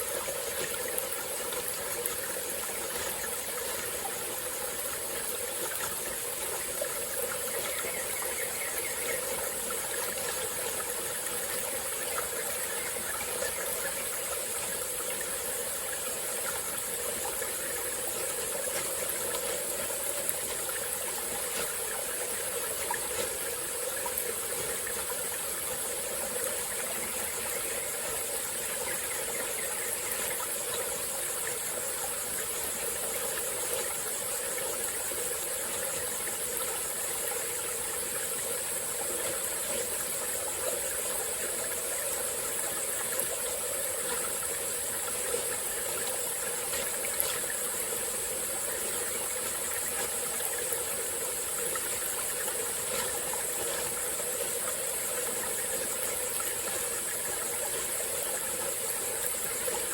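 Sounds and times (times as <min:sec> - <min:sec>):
high insect chorus: 0:00.0 - 0:59.9
stream flowing: 0:00.0 - 0:59.9.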